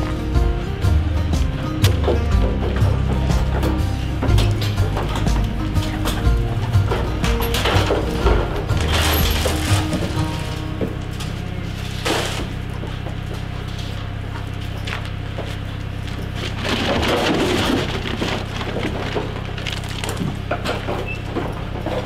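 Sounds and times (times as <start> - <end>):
steady low rumble: 0.0 - 21.7.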